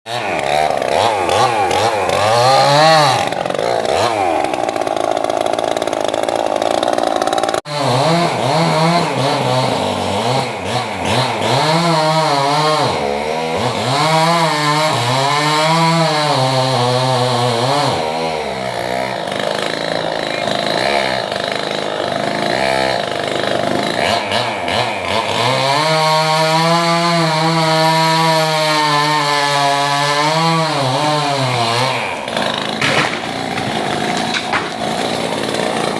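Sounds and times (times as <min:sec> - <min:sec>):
chainsaw cutting wood: 0:00.1 - 0:35.9.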